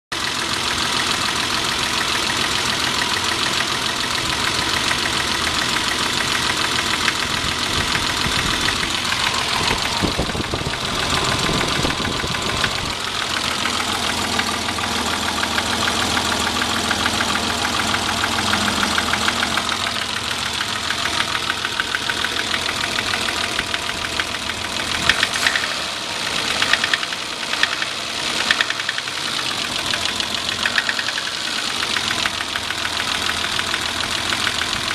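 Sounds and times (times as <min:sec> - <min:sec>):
car engine with rhythmic knock: 0:00.1 - 0:34.9.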